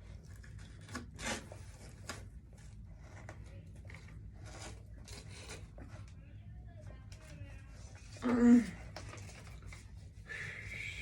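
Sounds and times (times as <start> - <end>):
rustling of things handled: 0.0 - 10.9
low steady hum: 0.0 - 11.0.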